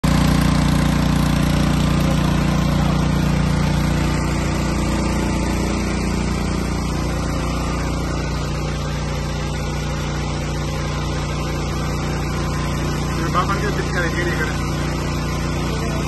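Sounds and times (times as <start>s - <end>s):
power sprayer engine running: 0.0s - 16.0s.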